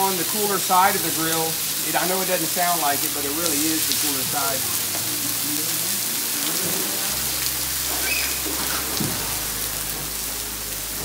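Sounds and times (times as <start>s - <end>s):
steaks sizzling on a griddle: 0.0s - 11.0s.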